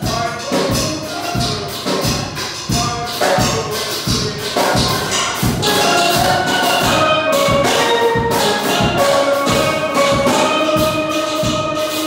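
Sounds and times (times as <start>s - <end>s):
steel band playing: 0.0s - 12.0s.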